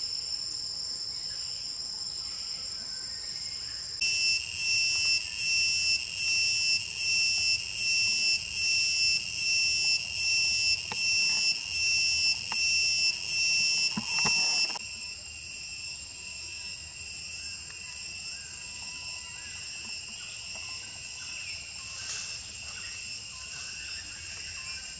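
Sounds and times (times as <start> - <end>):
pulsing insect chorus: 0.0 - 24.9
steady insect drone: 0.0 - 24.9
short insect chirps: 1.1 - 24.9.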